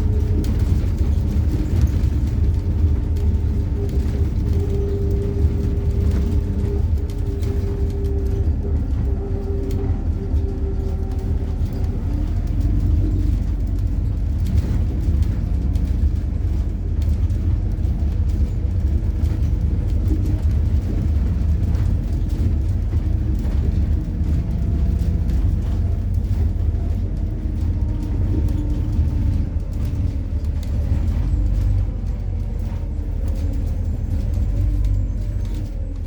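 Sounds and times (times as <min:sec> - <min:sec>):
bus engine and road rumble: 0:00.0 - 0:36.0
small rattles and clicks: 0:00.0 - 0:36.0.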